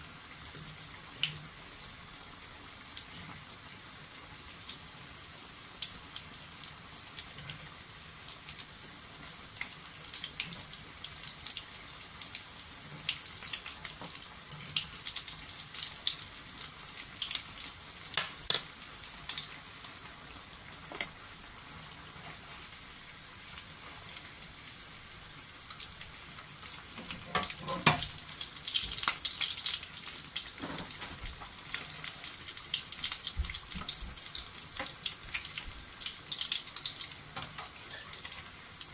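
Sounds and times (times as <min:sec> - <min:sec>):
patties sizzling in hot oil: 0:00.0 - 0:38.9.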